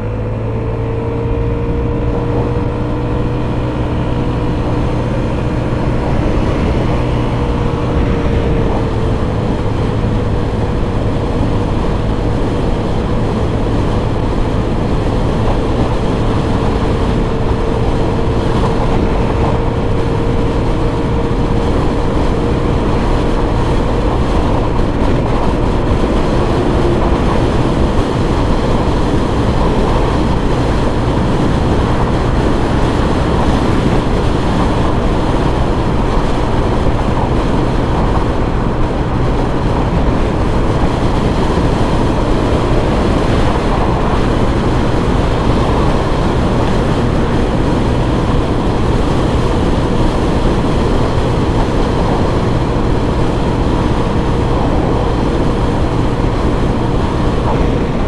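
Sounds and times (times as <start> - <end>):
scooter engine drone: 0.0 - 58.0
wind rush on microphone: 0.0 - 58.0.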